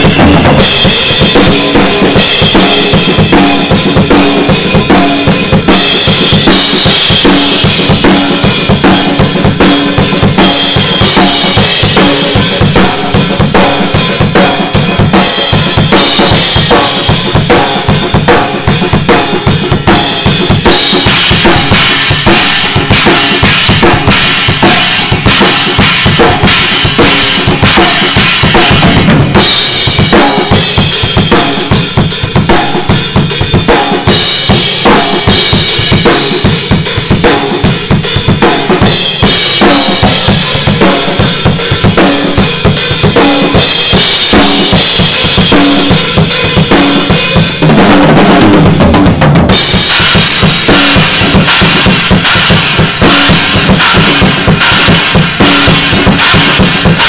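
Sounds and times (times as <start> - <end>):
rock drumming on drum kit: 0.0 - 57.0.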